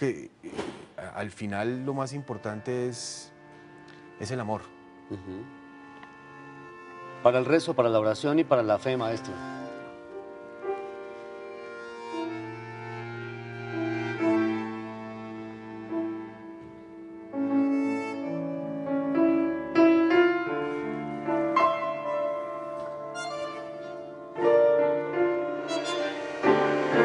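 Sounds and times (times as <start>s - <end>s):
grand piano chords: 1.0s - 27.0s
sustained melody instrument: 1.4s - 27.0s.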